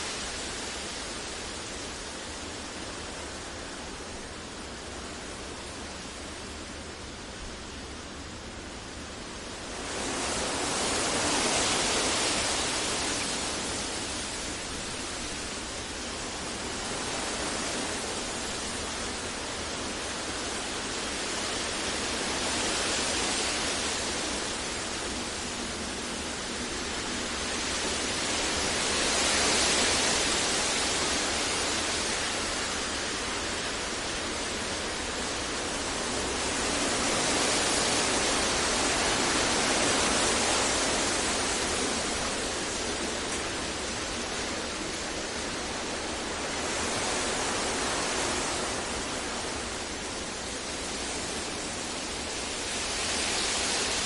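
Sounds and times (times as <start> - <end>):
steady synthetic noise hiss: 0.0 - 54.0.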